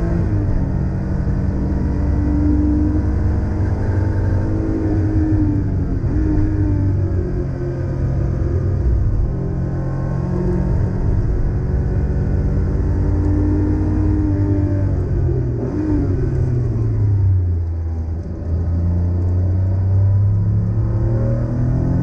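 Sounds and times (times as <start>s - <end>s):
car engine from inside cabin: 0.0s - 22.0s.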